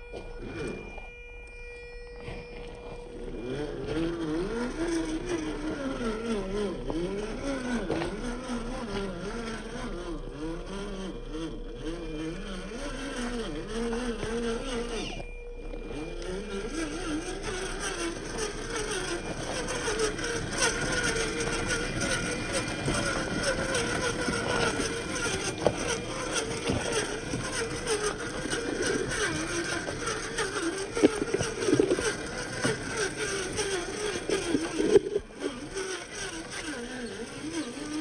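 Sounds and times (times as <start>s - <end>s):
toy car electric motor whining: 0.0s - 38.0s.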